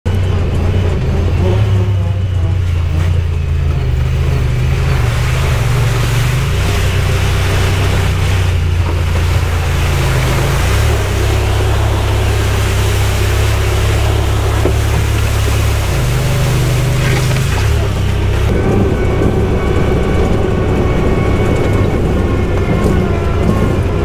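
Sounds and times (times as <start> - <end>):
utility vehicle engine droning: 0.0 - 24.0.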